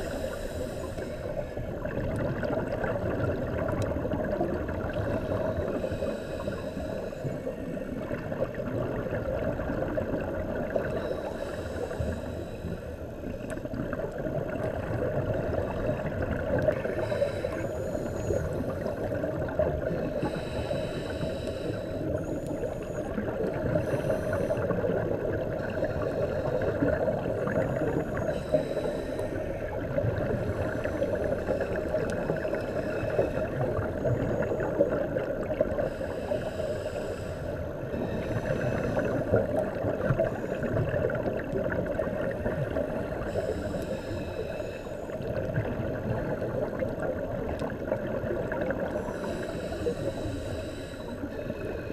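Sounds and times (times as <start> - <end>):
muffled underwater rush: 0.0 - 51.9
regulator breathing with bubbles: 0.0 - 51.9.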